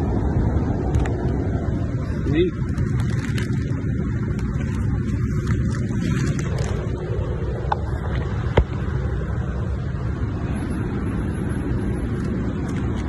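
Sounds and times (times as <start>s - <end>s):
car engine rumble inside cabin: 0.0s - 13.0s.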